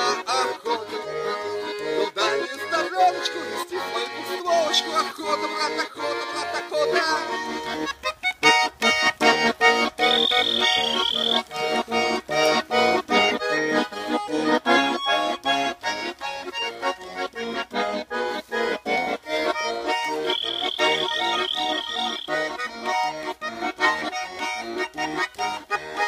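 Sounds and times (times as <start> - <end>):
button accordion melody: 0.0 - 26.0.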